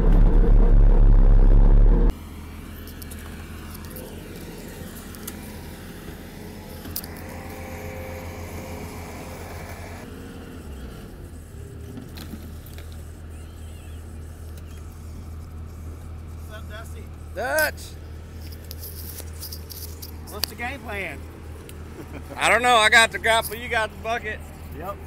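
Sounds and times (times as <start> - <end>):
loader engine running: 0.0 - 25.0.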